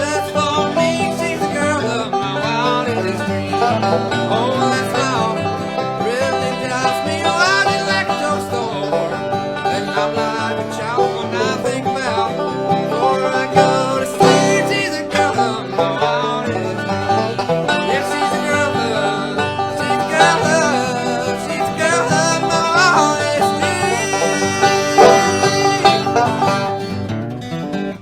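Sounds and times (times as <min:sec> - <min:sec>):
banjo and guitar bluegrass: 0:00.0 - 0:28.0.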